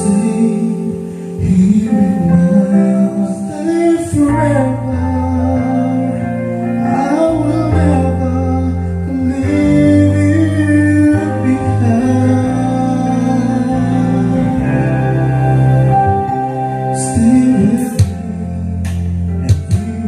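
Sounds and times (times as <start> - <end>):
karaoke backing music: 0.0 - 20.0
person singing: 0.0 - 20.0.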